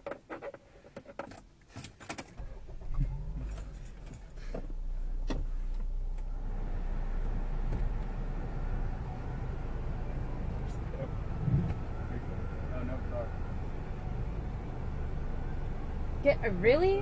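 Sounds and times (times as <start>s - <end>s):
car engine starting and running: 1.2s - 17.0s.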